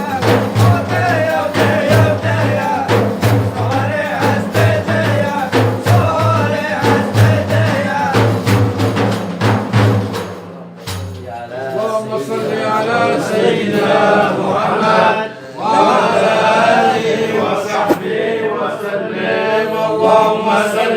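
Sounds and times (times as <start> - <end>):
men chanting praise song: 0.0 - 9.4, 11.2 - 20.9.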